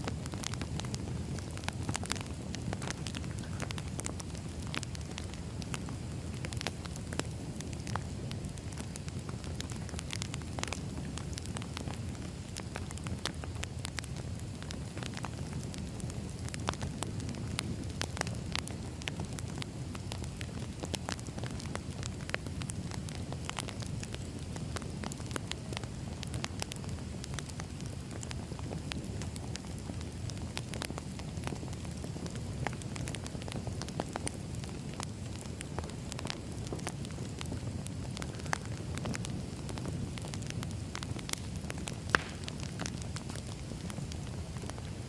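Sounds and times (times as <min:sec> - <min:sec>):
low rumble of flames: 0:00.0 - 0:45.0
wood crackling and popping: 0:00.0 - 0:45.0.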